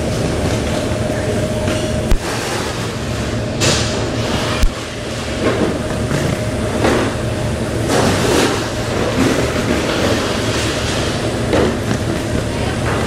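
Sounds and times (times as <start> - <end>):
conveyor belts running: 0.0 - 13.0
faint constant hum: 0.0 - 13.0.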